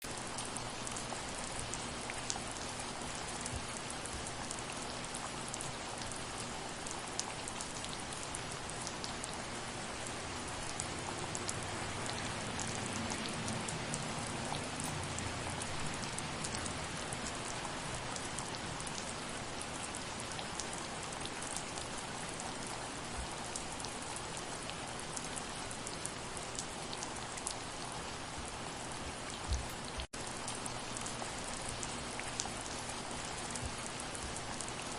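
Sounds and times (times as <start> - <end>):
raindrops ticking on a surface: 0.0 - 34.9
soft rain falling: 0.0 - 34.9.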